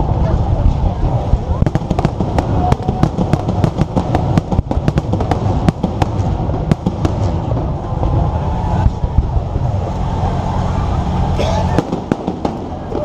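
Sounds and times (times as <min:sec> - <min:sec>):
fireworks bangs and cracks: 0:00.0 - 0:10.8, 0:11.7 - 0:13.0
steady low rumble: 0:00.0 - 0:13.0.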